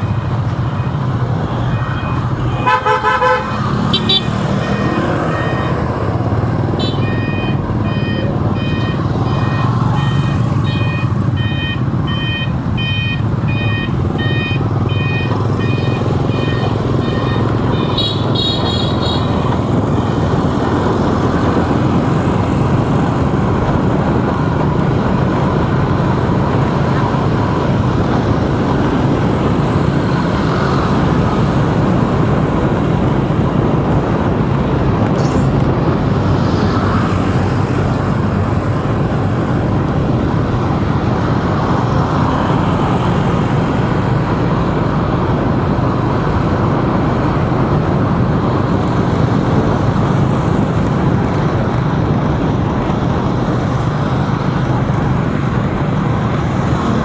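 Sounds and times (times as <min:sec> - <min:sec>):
road traffic: 0:00.0 - 0:57.0
vehicle engine: 0:00.0 - 0:57.0.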